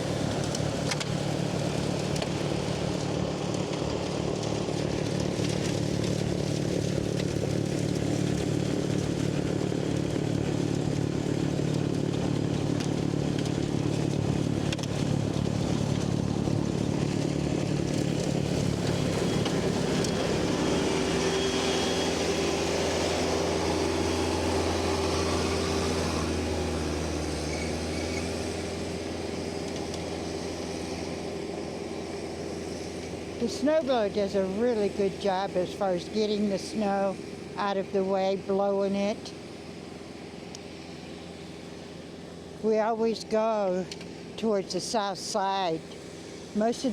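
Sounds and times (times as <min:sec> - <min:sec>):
diesel tractor engine under load: 0:00.0 - 0:46.9.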